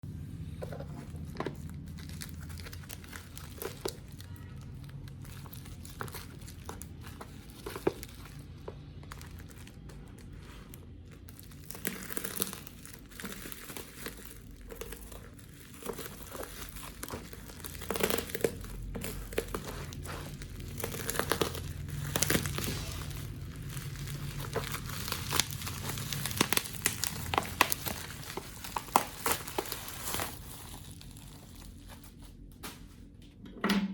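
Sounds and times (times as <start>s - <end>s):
steady low hum: 0.0s - 33.9s
crinkling and rustling handling: 0.1s - 33.4s.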